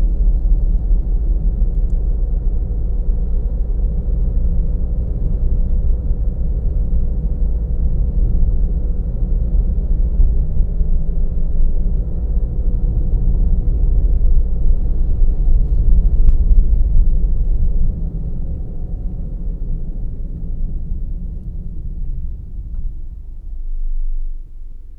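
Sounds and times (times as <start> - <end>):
car road and engine rumble: 0.0 - 24.9
faint steady hum: 0.0 - 24.9.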